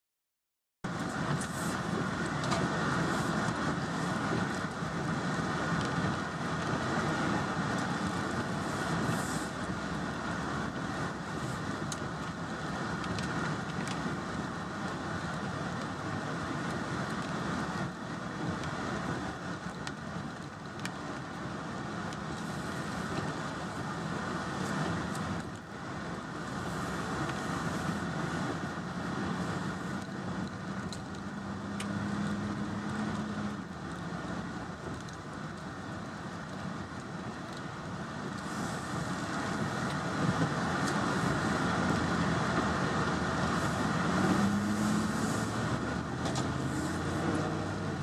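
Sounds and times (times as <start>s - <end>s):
truck engine and tyre noise: 0.8s - 48.0s.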